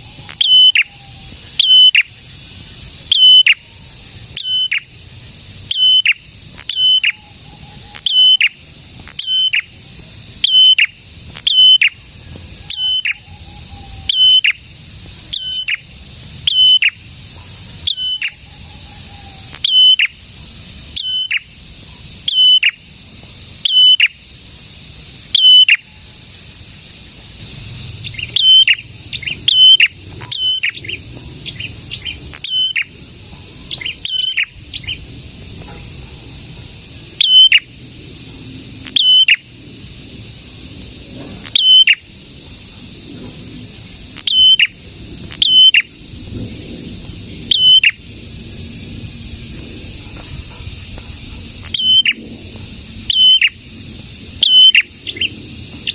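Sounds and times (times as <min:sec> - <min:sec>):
songbird calling: 0:00.0 - 0:46.2, 0:46.9 - 0:48.4, 0:49.2 - 0:55.9
steady high hiss: 0:00.0 - 0:55.9.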